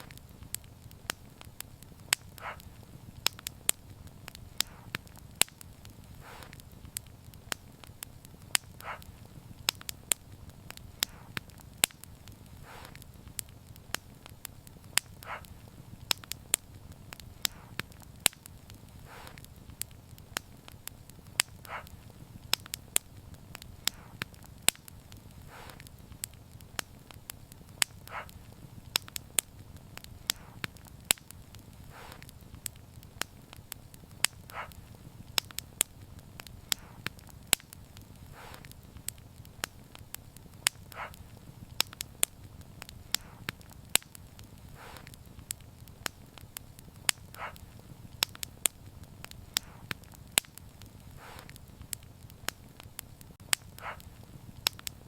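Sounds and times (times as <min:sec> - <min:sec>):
fire crackling and popping: 0:00.0 - 0:55.0
soft hiss: 0:00.0 - 0:55.0.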